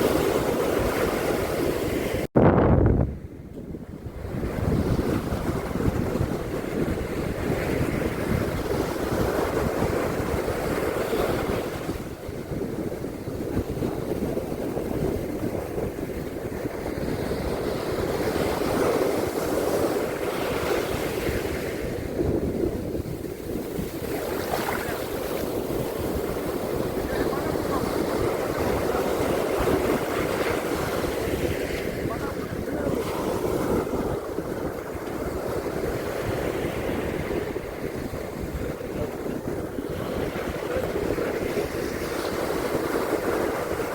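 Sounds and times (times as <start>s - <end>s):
waves washing onto beach: 0.0s - 2.3s, 3.8s - 43.9s
wind on microphone: 0.0s - 43.9s.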